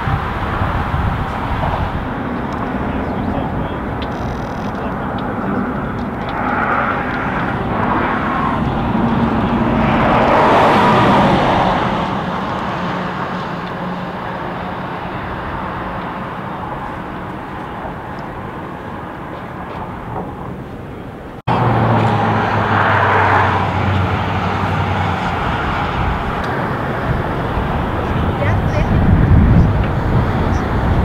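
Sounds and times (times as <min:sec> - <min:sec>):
vehicle passing: 0:00.0 - 0:31.0.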